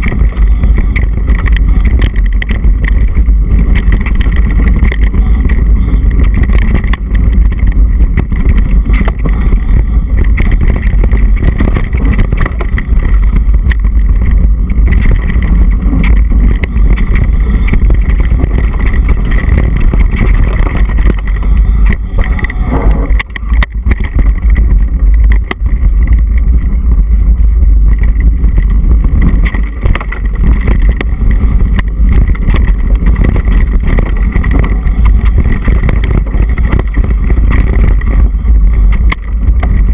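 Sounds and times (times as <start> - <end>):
bike rattling on dirt trail: 0.0 - 39.9
wind rumbling on microphone: 0.0 - 39.9.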